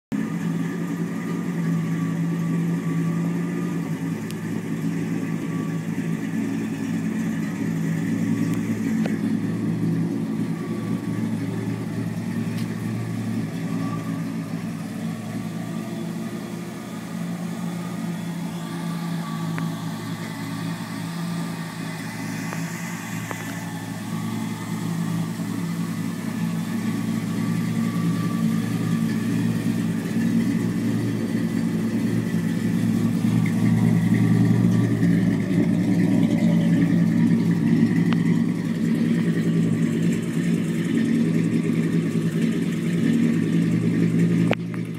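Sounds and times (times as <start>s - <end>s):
car engine idling: 0.1s - 44.9s.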